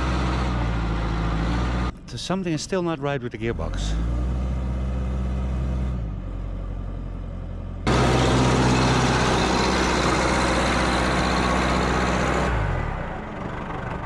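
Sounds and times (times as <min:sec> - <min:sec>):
backhoe engine running: 0:00.0 - 0:02.4, 0:03.5 - 0:14.0.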